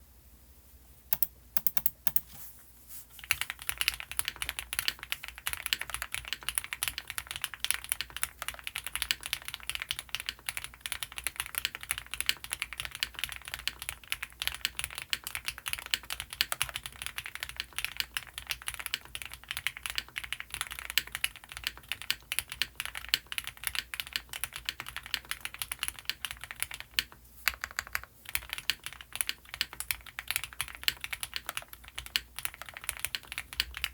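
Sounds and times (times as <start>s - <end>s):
mechanical keyboard typing: 1.1s - 2.3s, 3.2s - 33.9s.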